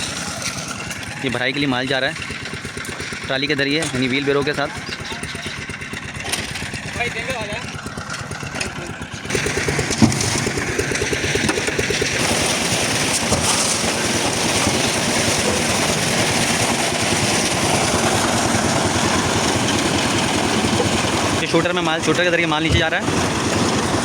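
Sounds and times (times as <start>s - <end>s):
concrete mixer engine running: 0.0s - 24.0s.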